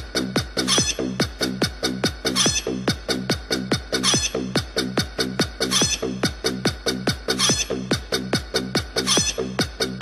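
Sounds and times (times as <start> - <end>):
kick-drum beat: 0.0 - 10.0.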